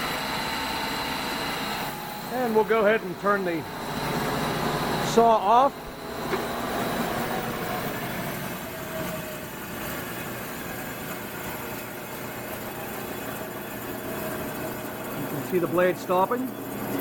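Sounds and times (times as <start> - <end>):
band saw motor coasting down: 0.0 - 17.0
steady hum of converter: 0.0 - 17.0.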